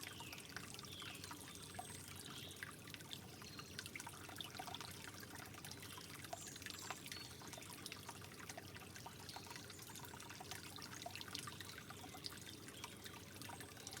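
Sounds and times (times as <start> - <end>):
water drips splashing: 0.0 - 14.0
water trickling: 0.0 - 14.0.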